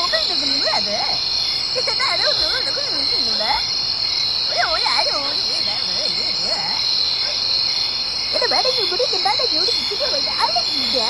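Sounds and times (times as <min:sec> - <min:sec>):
frogs calling: 0:00.0 - 0:11.0
insects trilling: 0:00.0 - 0:11.0.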